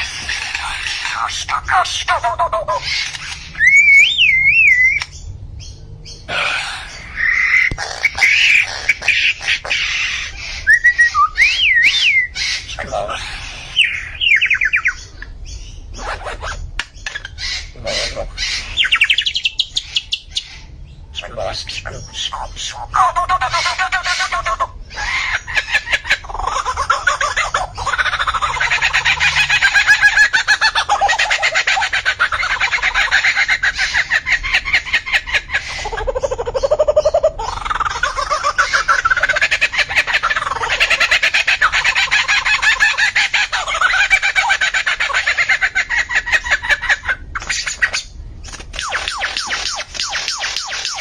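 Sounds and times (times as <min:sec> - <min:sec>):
bird singing: 0:00.0 - 0:51.0.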